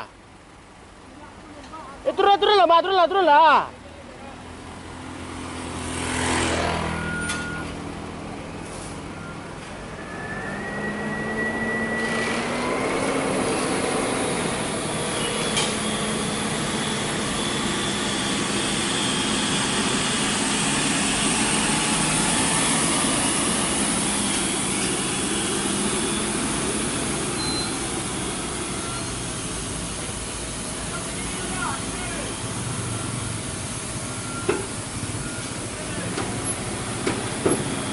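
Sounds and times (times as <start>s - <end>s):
diesel truck passing: 1.9s - 37.9s.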